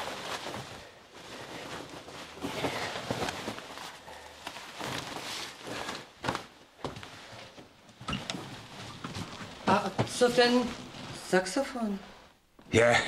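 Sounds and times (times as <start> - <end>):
footsteps: 0.0 - 11.5
heavy coat rustling: 0.0 - 12.3.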